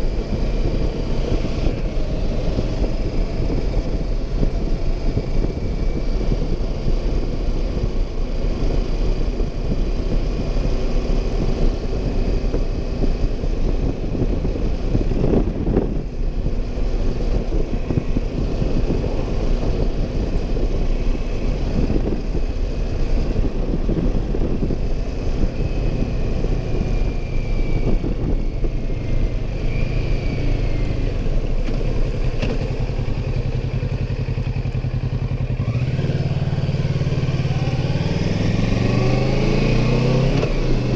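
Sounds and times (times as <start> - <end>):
wind rushing: 0.0 - 33.8
motorcycle engine running: 0.0 - 40.9.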